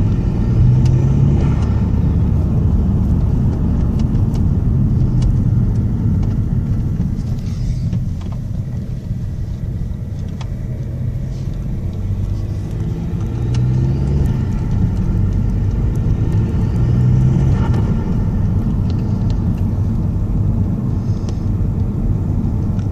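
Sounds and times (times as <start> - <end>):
diesel engine rumbling: 0.0 - 22.9.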